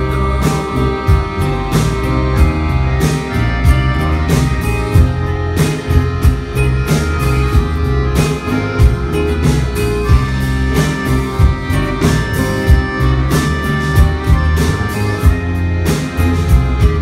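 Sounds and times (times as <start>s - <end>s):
accordion: 0.0s - 17.0s
live rock band playing: 0.0s - 17.0s.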